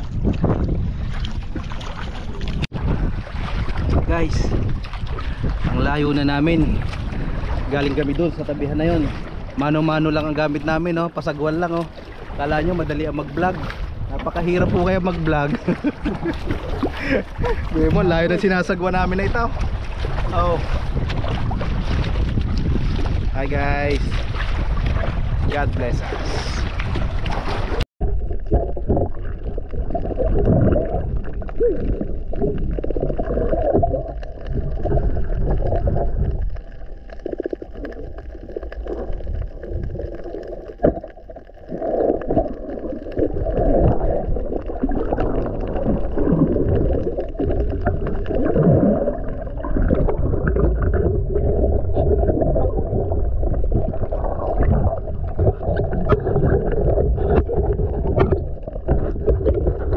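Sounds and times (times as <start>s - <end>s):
muffled underwater rumbling and gurgling: 0.0s - 59.9s.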